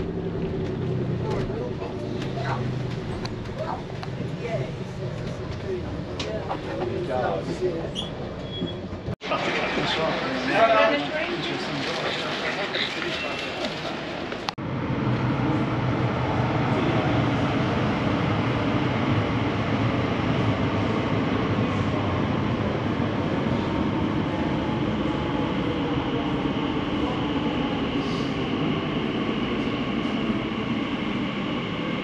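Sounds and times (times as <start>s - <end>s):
underground train rumbling: 0.0s - 32.0s.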